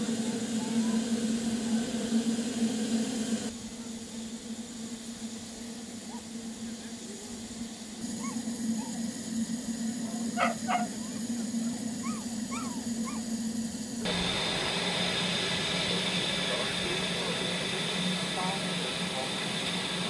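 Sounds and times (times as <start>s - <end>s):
steam locomotive low hum: 0.0s - 20.0s.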